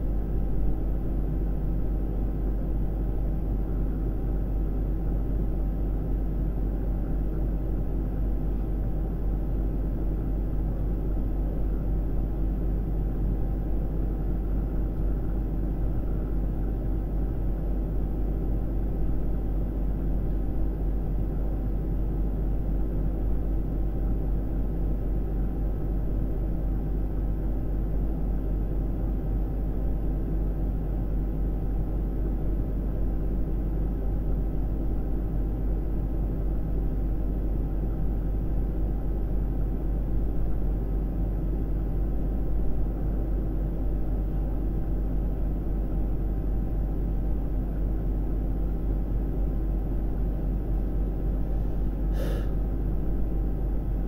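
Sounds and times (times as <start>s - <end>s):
low rumble and hum: 0.0s - 54.0s.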